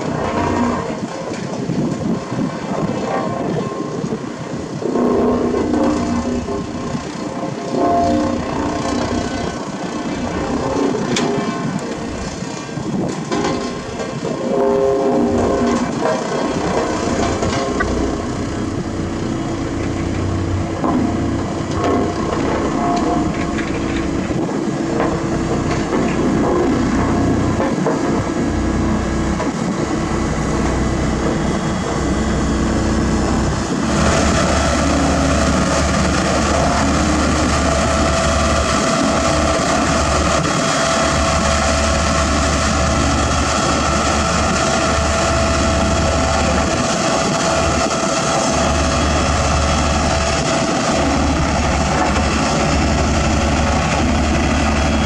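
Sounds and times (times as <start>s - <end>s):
compactor diesel engine running: 0.0s - 55.0s
steady whine: 0.0s - 55.0s.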